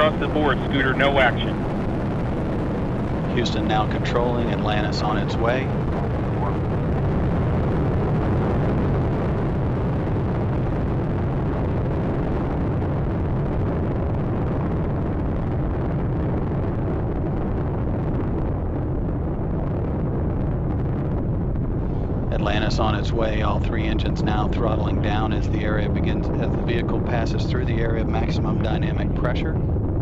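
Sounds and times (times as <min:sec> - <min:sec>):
rocket engines rumbling: 0:00.0 - 0:30.0.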